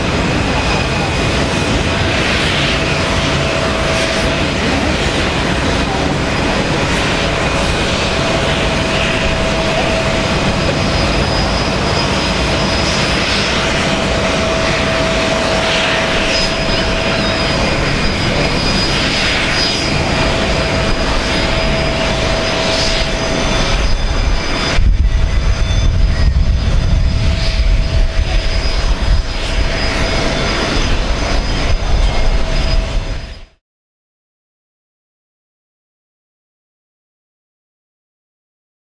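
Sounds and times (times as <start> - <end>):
deep rumble: 0.0 - 33.6
jet engines running: 0.0 - 33.6
thin steady whine: 0.0 - 33.6.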